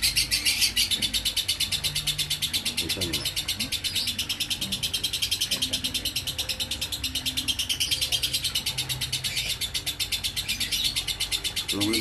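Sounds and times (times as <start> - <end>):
lovebird chattering trill: 0.0 - 12.0.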